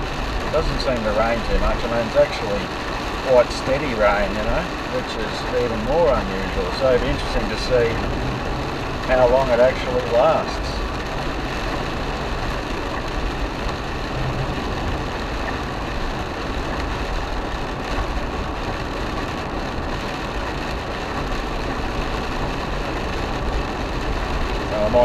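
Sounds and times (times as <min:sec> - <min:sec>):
car engine running: 0:00.0 - 0:25.0
rain: 0:00.0 - 0:25.0
tyres hissing on wet road: 0:00.0 - 0:25.0.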